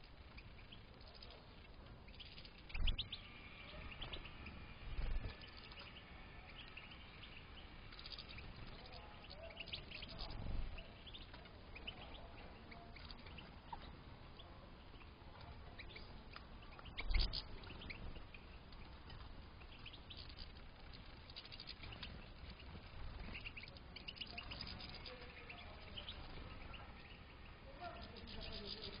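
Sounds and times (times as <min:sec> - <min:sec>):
finches twittering and chirping: 0:00.0 - 0:29.0.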